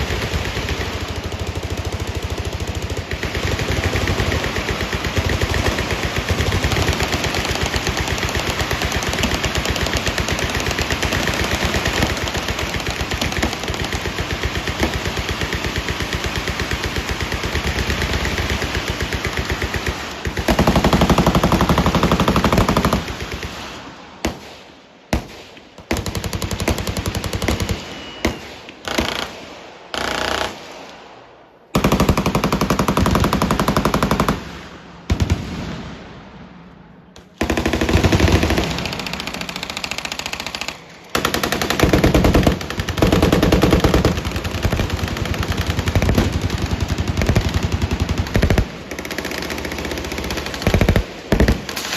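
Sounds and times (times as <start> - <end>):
machine-gun fire: 0.0 - 24.5, 25.2 - 30.9, 31.8 - 35.9, 37.1 - 51.9.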